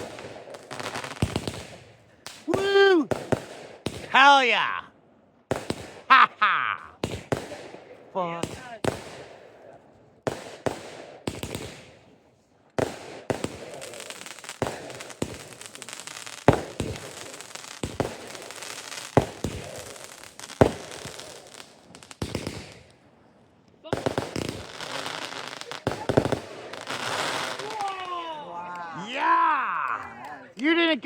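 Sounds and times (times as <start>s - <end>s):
firework bangs: 0.0s - 4.8s, 5.5s - 12.2s, 12.8s - 23.0s, 23.8s - 28.4s
fireworks crackling: 0.0s - 4.9s, 5.5s - 31.0s.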